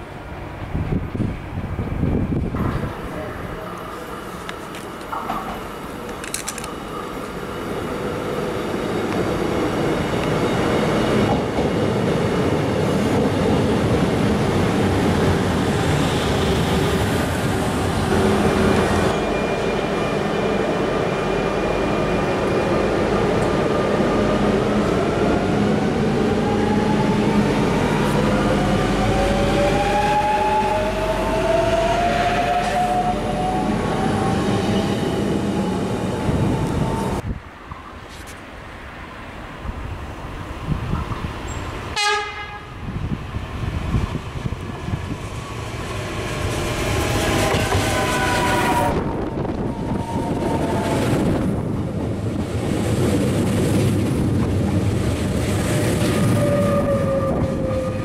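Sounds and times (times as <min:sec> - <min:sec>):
train rumbling on track: 0:00.0 - 0:38.0, 0:38.6 - 0:58.0.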